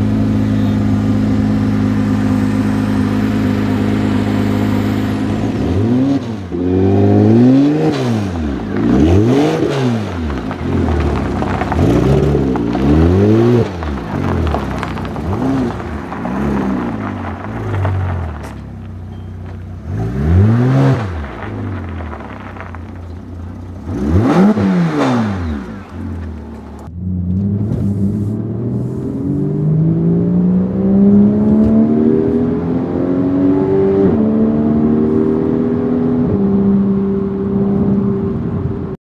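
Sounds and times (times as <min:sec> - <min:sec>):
car engine revving: 0:00.0 - 0:18.8, 0:19.7 - 0:39.0.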